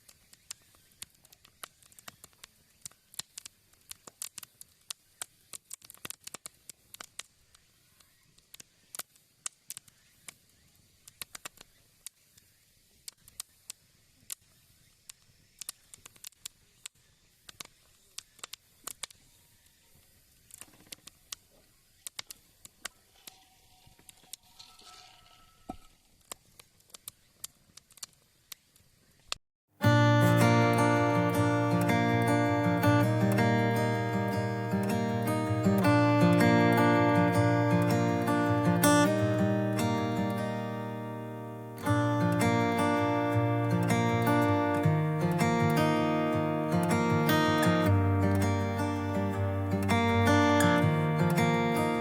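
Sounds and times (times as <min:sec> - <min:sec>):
wood fire crackling: 0:00.0 - 0:12.3, 0:13.0 - 0:19.2, 0:20.4 - 0:25.0, 0:26.1 - 0:29.4, 0:30.1 - 0:52.0
fire popping and snapping: 0:00.0 - 0:12.4, 0:13.0 - 0:19.2, 0:20.4 - 0:23.4, 0:26.1 - 0:29.4, 0:30.3 - 0:52.0.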